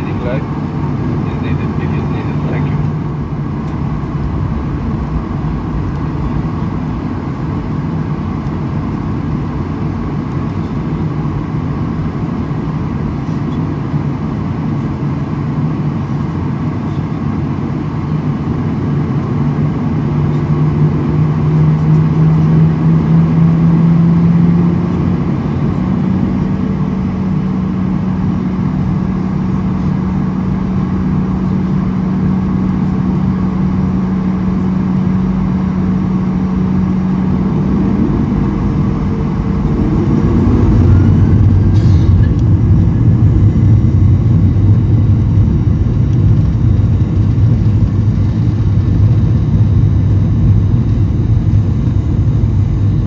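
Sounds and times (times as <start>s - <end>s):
jet engine cabin drone: 0.0s - 53.0s.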